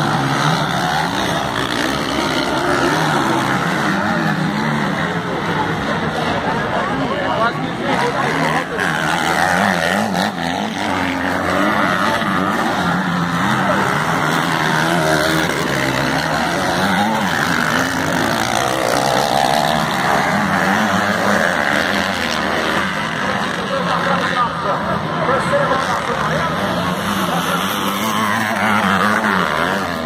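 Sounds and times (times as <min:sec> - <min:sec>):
racing motorcycle engines revving: 0:00.0 - 0:30.0.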